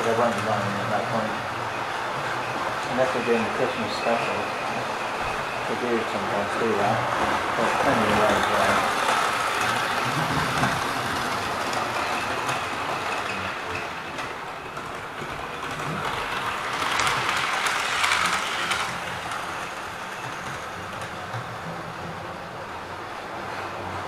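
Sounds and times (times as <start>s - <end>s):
model train whirring rumble: 0.0s - 24.0s
wheels clicking over rail joints: 0.0s - 24.0s.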